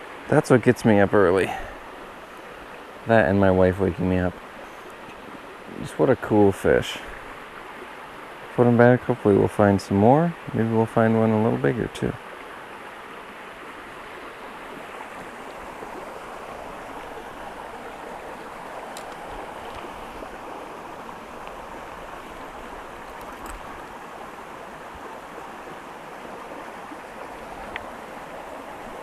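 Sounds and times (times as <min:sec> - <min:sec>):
creek water flowing: 0:00.0 - 0:29.0.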